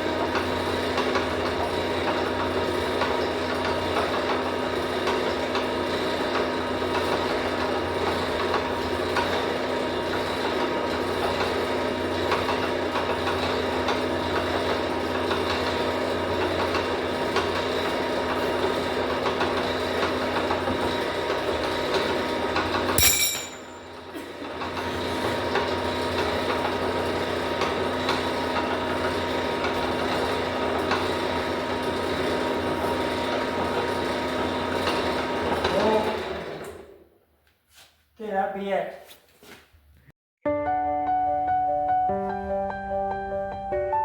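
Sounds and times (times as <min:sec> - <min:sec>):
machine humming and rattling: 0:00.0 - 0:36.8.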